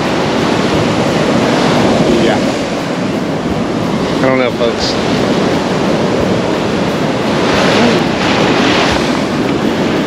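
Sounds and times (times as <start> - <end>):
ocean surf washing on beach: 0.0 - 10.0
wind buffeting microphone: 0.0 - 10.0.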